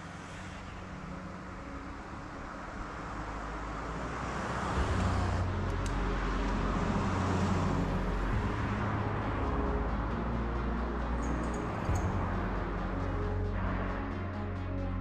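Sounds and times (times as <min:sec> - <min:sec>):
cars driving past: 0:00.0 - 0:14.8.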